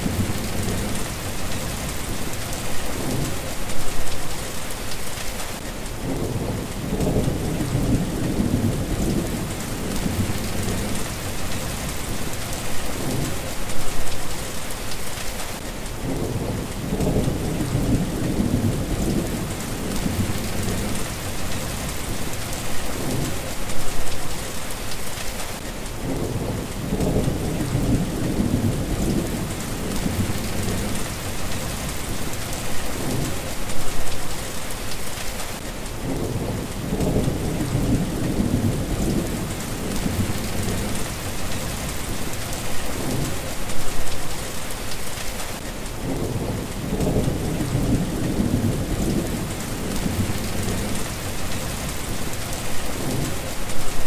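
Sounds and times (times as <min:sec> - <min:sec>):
thunder rumbling: 0:00.0 - 0:04.0, 0:06.0 - 0:13.5, 0:16.0 - 0:23.9, 0:26.0 - 0:34.1, 0:36.0 - 0:44.1, 0:46.0 - 0:54.0
rain pattering: 0:00.0 - 0:54.0.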